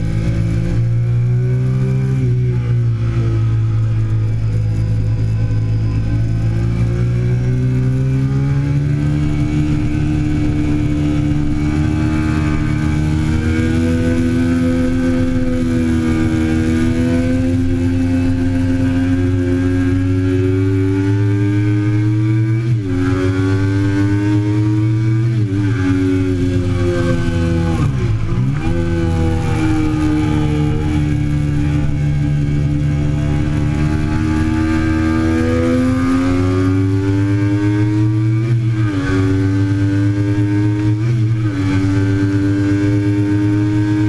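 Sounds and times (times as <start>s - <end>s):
motorcycle engine at high revs: 0.0s - 44.0s.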